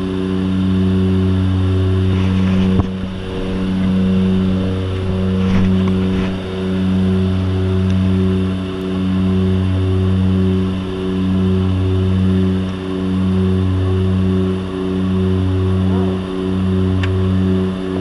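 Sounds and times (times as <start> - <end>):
aircraft propeller drone: 0.0 - 18.0.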